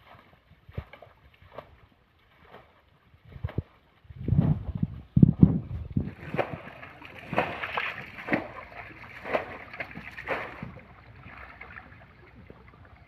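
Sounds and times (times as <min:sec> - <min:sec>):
splashing in muddy water: 0:00.0 - 0:13.0.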